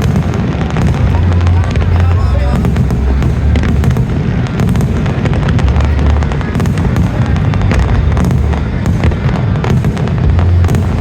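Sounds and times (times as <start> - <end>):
fireworks bangs and crackles: 0.0 - 11.0
deep low rumble: 0.8 - 11.0.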